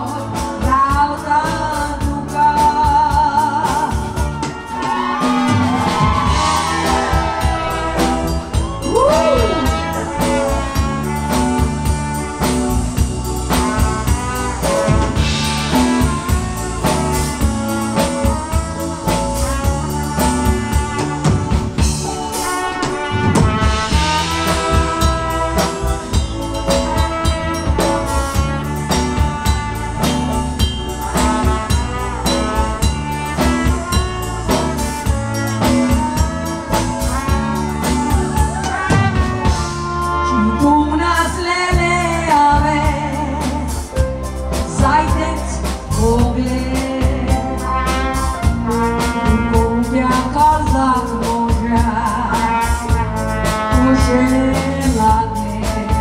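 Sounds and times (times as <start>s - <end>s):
woman singing: 0.0s - 29.7s, 30.3s - 56.0s
keyboard accompaniment: 0.0s - 56.0s
steady drum beat: 0.0s - 56.0s.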